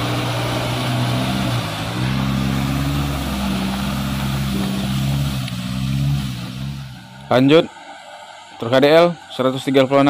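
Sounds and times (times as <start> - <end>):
truck diesel engine pulling under load: 0.0 - 10.0.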